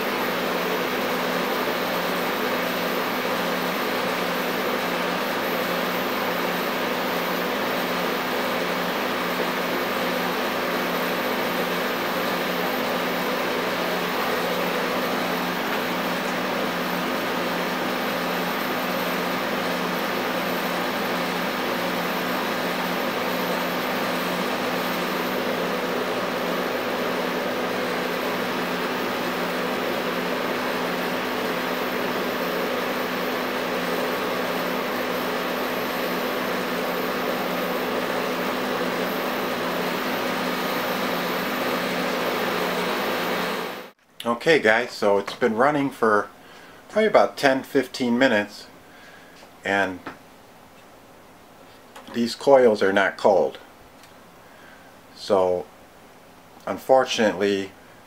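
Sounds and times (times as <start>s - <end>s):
dehumidifier humming: 0.0s - 58.0s.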